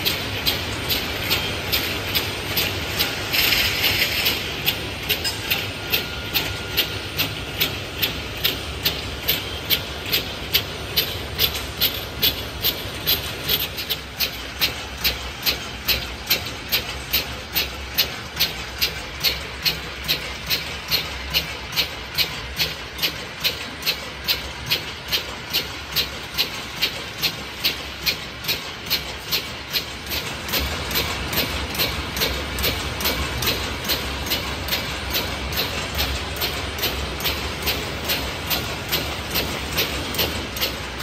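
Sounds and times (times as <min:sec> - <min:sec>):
sharp regular machine clicks: 0:00.0 - 0:41.0.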